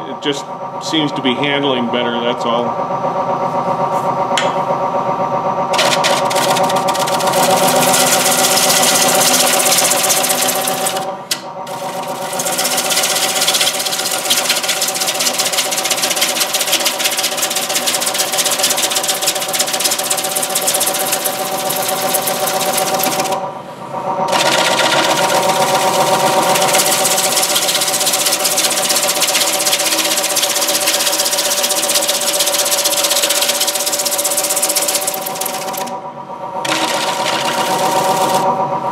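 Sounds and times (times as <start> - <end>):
lathe hum: 5.6 - 38.9.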